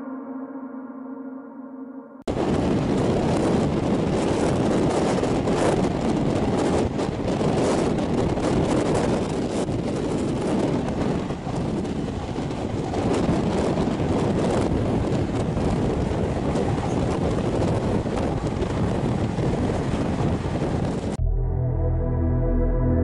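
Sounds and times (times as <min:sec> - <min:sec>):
train wheels rumbling: 0:02.3 - 0:21.2
wind noise on microphone: 0:02.3 - 0:21.2.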